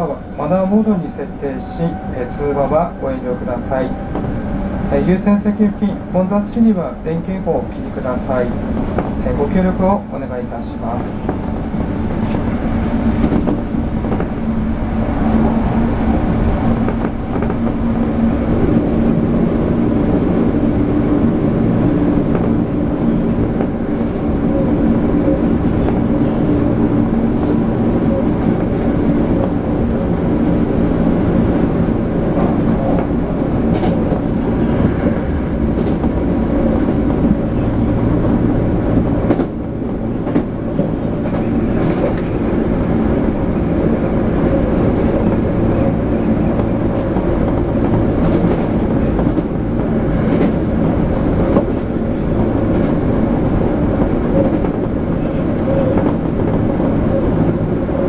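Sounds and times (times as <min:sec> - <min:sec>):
train rumbling with low hum: 0:00.0 - 0:58.0.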